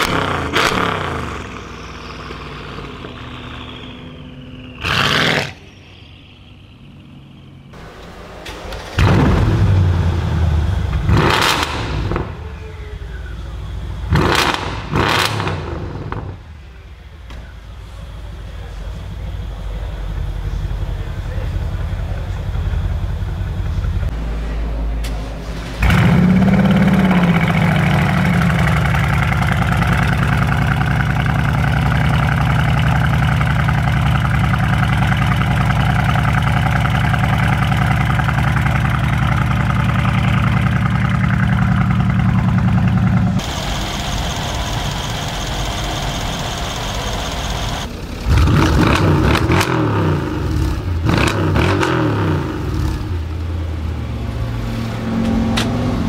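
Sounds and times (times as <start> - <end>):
engine revving blips: 0.0 - 16.5, 25.0 - 53.5
car engine starting and idling: 0.0 - 56.0.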